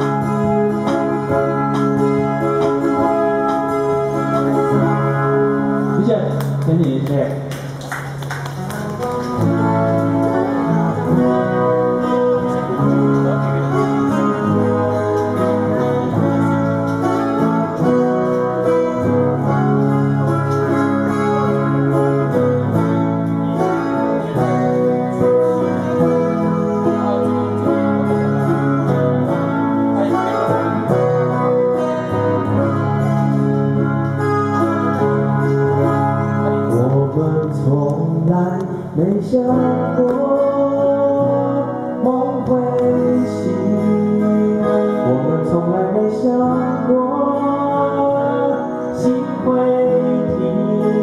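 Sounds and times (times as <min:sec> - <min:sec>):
two guitars playing a duet: 0:00.0 - 0:51.0.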